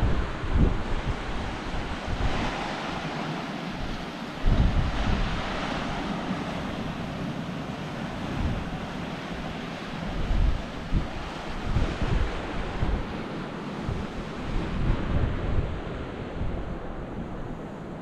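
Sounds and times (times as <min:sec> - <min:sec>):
ocean surf hissing: 0:00.0 - 0:18.0
wind buffeting microphone: 0:00.0 - 0:18.0.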